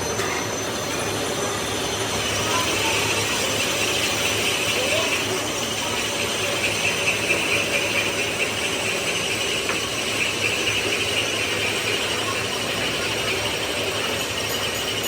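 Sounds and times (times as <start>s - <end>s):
high-pitched squeal: 0.0s - 15.0s
workshop machinery noise: 0.0s - 15.0s.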